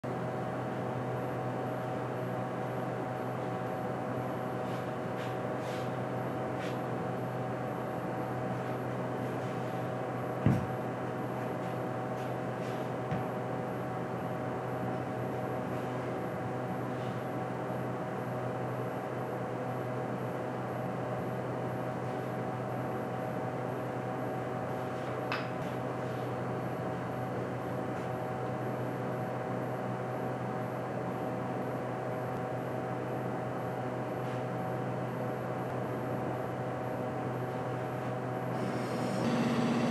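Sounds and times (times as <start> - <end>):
machine hum with low drone: 0.0 - 39.9.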